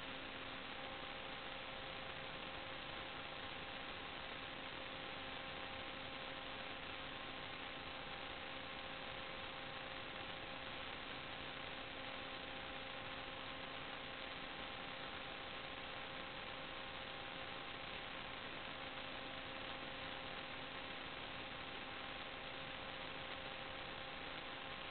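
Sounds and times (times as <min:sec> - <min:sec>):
electrical hiss: 0:00.0 - 0:24.9
electrical hum: 0:00.0 - 0:24.9.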